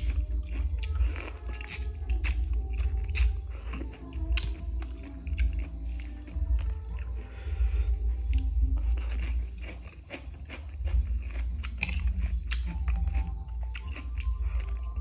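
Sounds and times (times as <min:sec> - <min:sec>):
person chewing crunchy salad: 0:00.0 - 0:15.0
steady low hum: 0:00.0 - 0:15.0.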